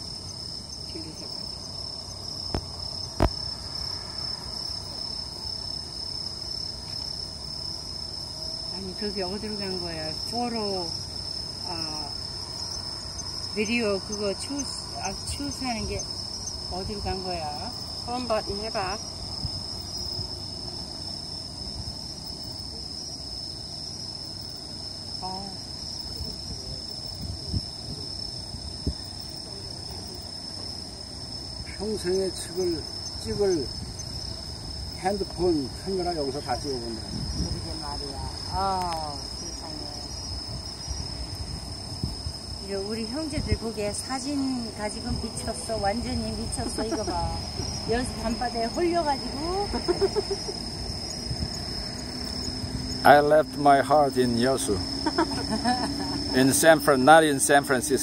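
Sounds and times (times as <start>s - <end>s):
crickets trilling: 0.0s - 58.0s
insect chorus chirring: 0.0s - 58.0s.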